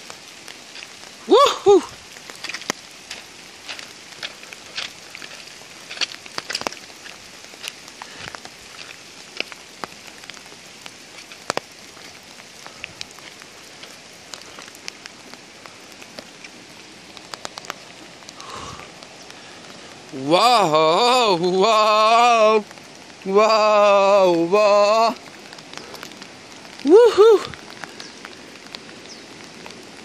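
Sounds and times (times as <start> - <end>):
raindrops ticking close by: 0.0 - 30.0
steady rain: 0.0 - 30.0.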